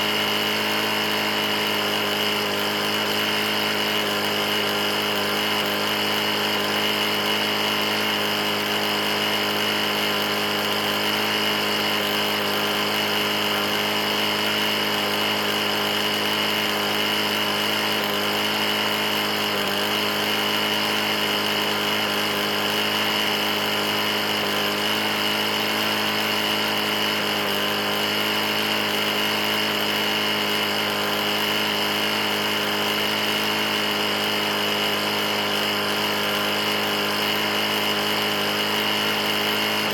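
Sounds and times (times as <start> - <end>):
mower engine running with knock: 0.0 - 39.9.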